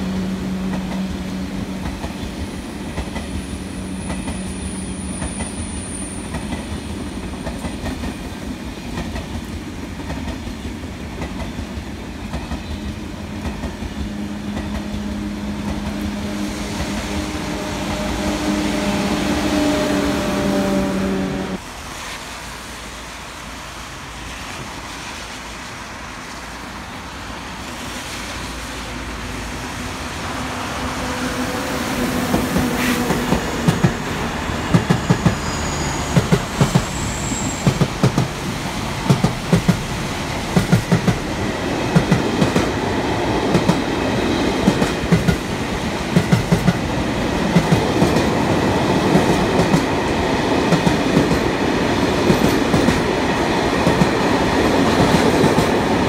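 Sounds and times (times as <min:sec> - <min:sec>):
freight train rumble: 0:00.0 - 0:56.0
train rolling past humming: 0:00.0 - 0:56.0.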